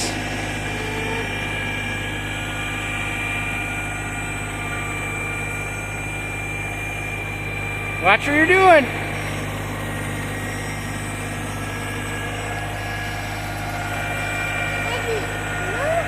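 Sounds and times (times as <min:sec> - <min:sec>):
thin steady whine: 0:00.0 - 0:16.0
tractor diesel engine running: 0:00.0 - 0:16.0.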